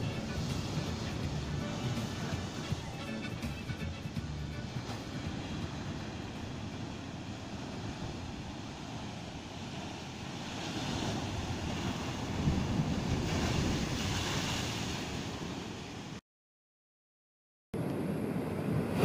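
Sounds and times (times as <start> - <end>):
ocean surf breaking on rock: 0.0 - 16.2, 17.8 - 19.0.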